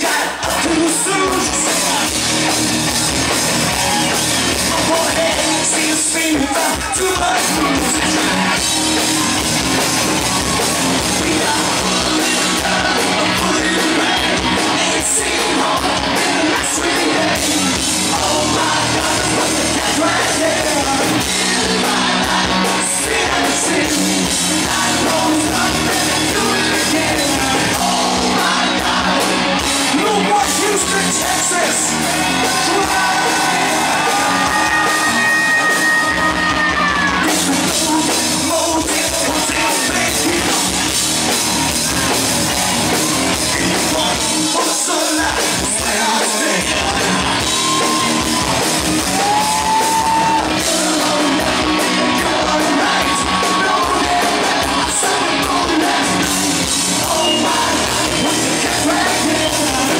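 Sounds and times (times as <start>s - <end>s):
man singing: 0.0s - 2.5s, 3.8s - 8.7s, 10.5s - 41.0s, 43.3s - 48.3s, 49.1s - 59.9s
live hard rock band: 0.0s - 59.9s.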